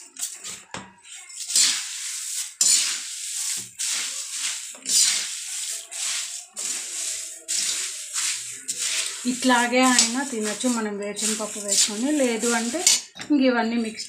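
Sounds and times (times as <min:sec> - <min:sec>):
spatula stirring puffed rice: 0:00.0 - 0:13.2.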